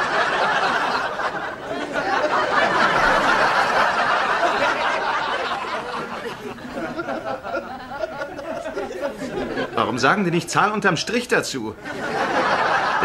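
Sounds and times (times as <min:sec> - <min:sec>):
studio audience laughing: 0:00.0 - 0:10.8, 0:11.5 - 0:13.0.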